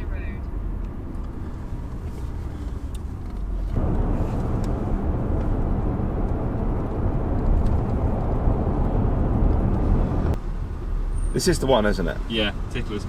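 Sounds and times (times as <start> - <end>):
road and wind noise in car: 0.0 - 13.0.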